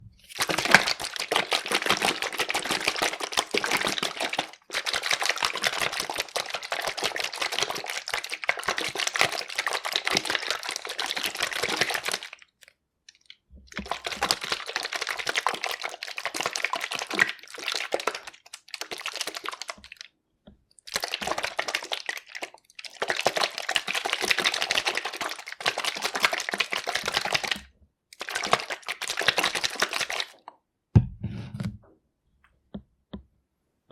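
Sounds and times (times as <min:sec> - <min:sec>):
plastic bottle shaken hard: 0:00.3 - 0:12.4, 0:13.7 - 0:20.0, 0:20.9 - 0:30.4.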